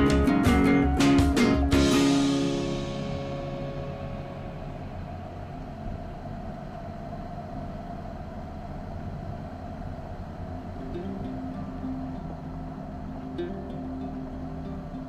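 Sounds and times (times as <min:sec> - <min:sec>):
engine rumbling at low speed: 0:00.0 - 0:15.0.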